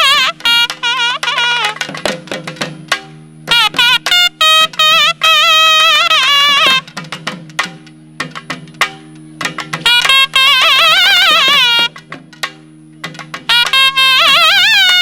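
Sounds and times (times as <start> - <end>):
double-reed pipe melody: 0.0 - 15.0
sharp drum strokes: 0.0 - 15.0.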